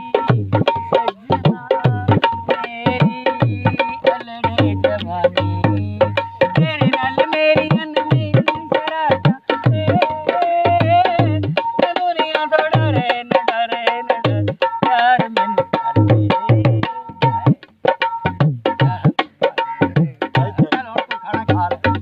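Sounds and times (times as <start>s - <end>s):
man singing: 0.0s - 18.0s, 18.6s - 22.0s
barrel hand drum: 0.0s - 22.0s.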